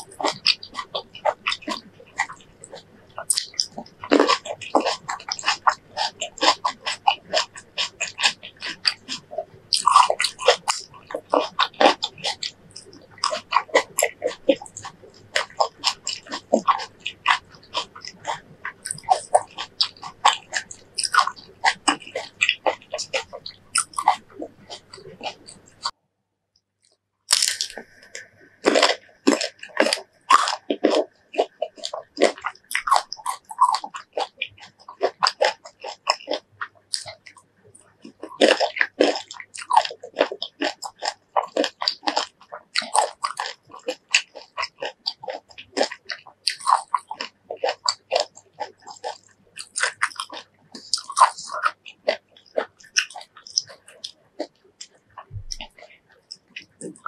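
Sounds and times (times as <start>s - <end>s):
crunching crisp raw fruit: 0.0s - 25.9s, 26.8s - 57.0s.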